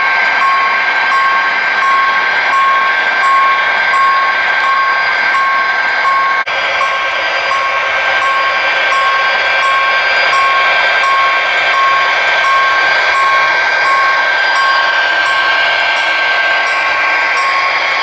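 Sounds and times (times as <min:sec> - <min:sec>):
model locomotive whine and rumble: 0:00.0 - 0:18.0
repeating beep: 0:00.4 - 0:18.0.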